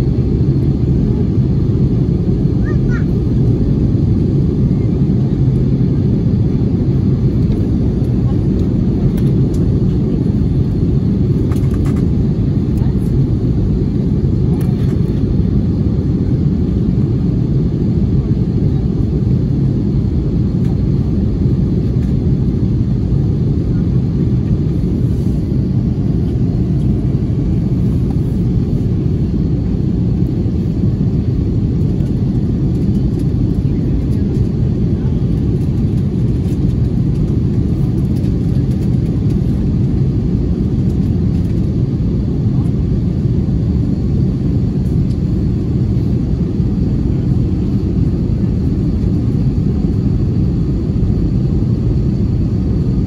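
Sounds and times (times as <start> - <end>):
jet airliner cabin rumble: 0.0 - 53.0.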